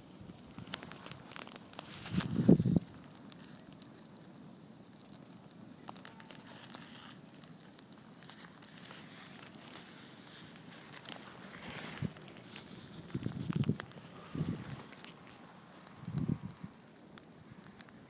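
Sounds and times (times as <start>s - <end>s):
campfire crackling and popping: 0.0s - 18.0s
faint hiss of fire: 0.0s - 18.0s.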